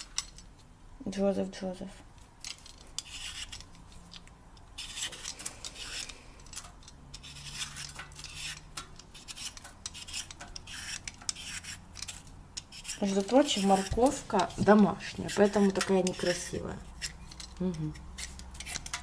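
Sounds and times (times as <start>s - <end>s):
peeler scraping potato skin: 2.5s - 3.8s, 4.6s - 19.0s.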